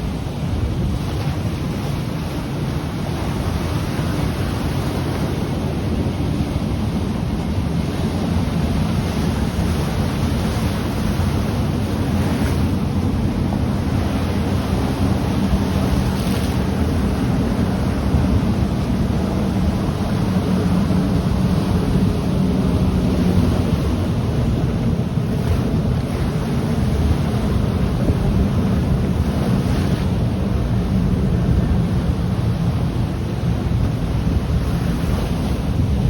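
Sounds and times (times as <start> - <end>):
ocean surf washing ashore: 0.0 - 36.0
wind buffeting microphone: 0.0 - 36.0.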